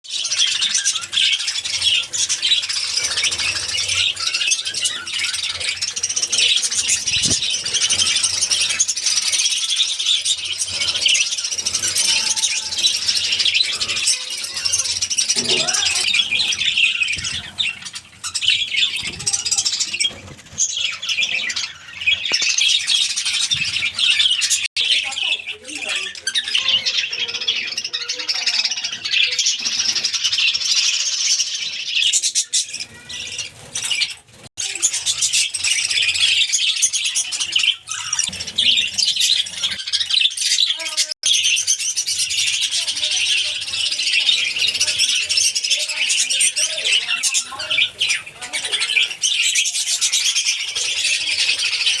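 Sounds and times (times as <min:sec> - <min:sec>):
budgerigars chattering: 0:00.1 - 0:52.0.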